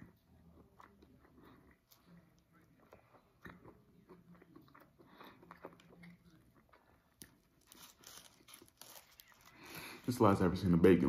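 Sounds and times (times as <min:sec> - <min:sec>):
faint chewing mouth sounds: 0:00.0 - 0:10.1.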